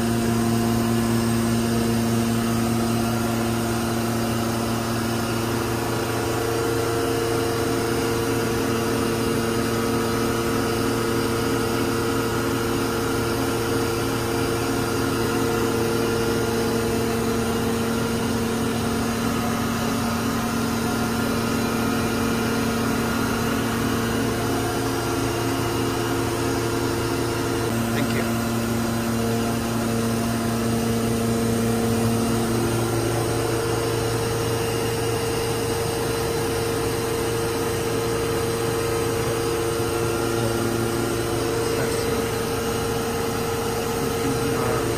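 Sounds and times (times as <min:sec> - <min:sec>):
machining center humming: 0:00.0 - 0:44.9.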